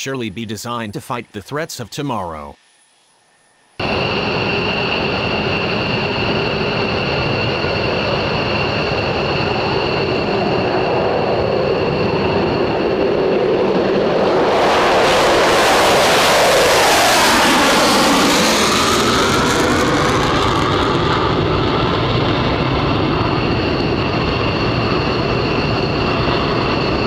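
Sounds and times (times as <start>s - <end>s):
jet engine roar with whine: 0.0s - 27.0s.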